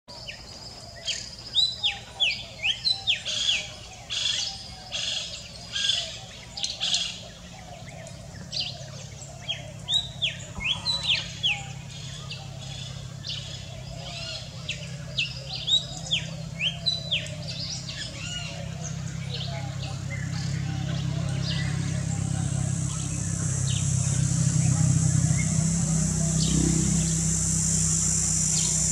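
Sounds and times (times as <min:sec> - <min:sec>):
birds chirping: 0:00.1 - 0:28.9
low motor hum: 0:04.7 - 0:28.9.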